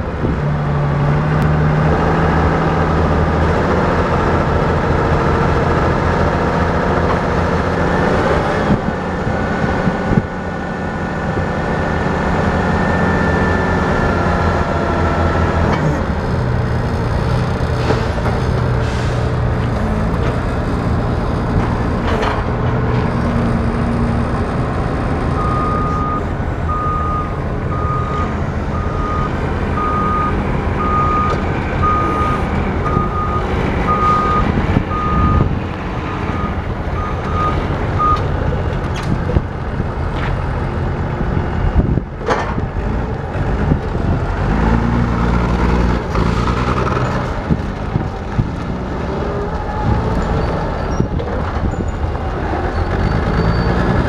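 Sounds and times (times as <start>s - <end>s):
forklift engine revving: 0.1s - 54.0s.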